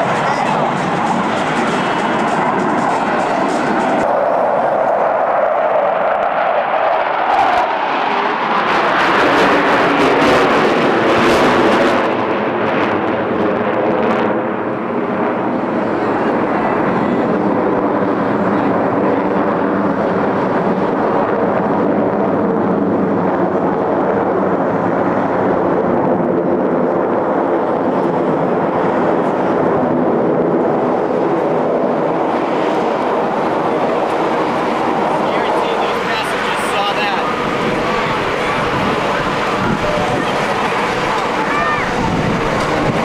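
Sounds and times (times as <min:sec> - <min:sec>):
jet engines roaring overhead: 0:00.0 - 0:43.0.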